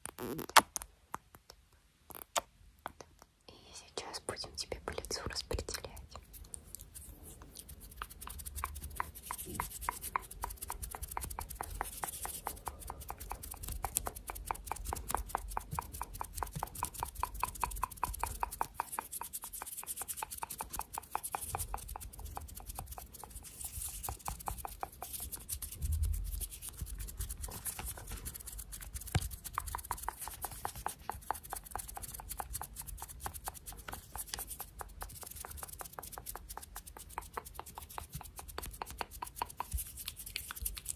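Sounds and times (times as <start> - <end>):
hands rubbing and clicking: 0.0 - 40.9.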